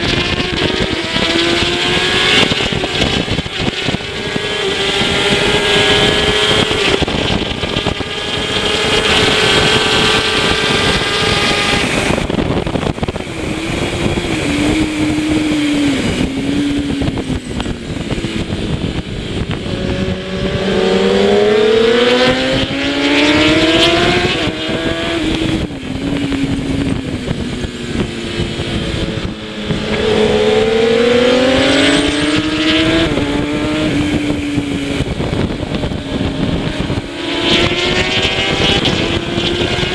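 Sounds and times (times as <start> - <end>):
motorcycle engine at race speed: 0.0 - 39.9
wind rush: 0.0 - 39.9.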